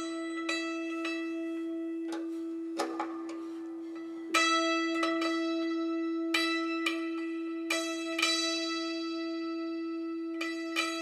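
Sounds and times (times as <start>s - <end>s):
hammered dulcimer strings ringing: 0.0s - 11.0s.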